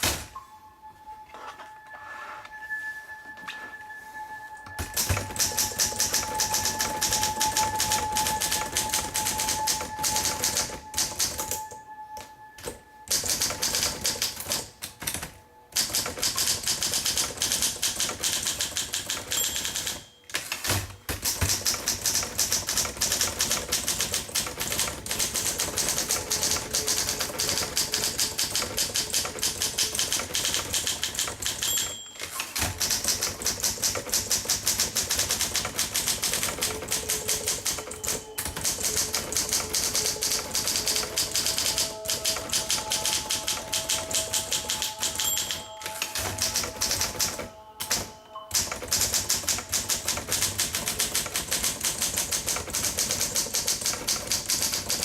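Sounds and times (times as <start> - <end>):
manual typewriter key strikes: 4.8 - 11.7, 12.6 - 55.0.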